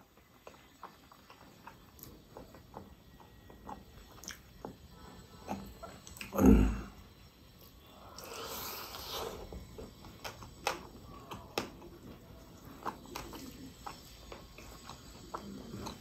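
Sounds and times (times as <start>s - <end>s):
chewing with wet mouth clicks: 0.0s - 6.4s, 7.2s - 16.0s.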